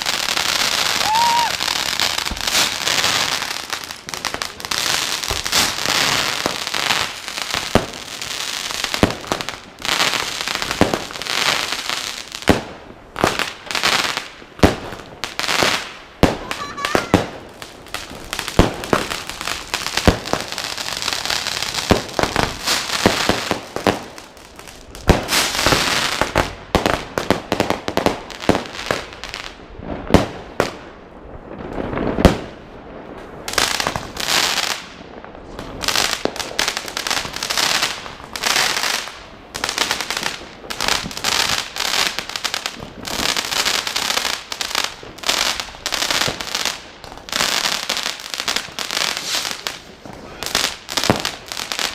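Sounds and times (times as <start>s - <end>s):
crackle and hiss: 0.0s - 51.9s
fireworks and firecrackers banging: 0.0s - 51.9s
fireworks booms: 0.0s - 51.9s.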